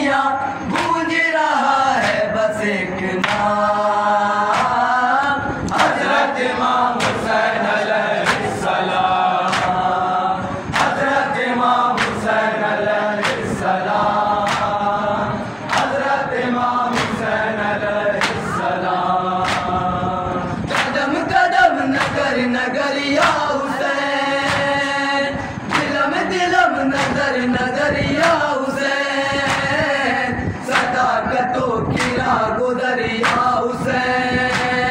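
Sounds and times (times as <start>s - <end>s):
men chanting in unison: 0.0s - 34.9s.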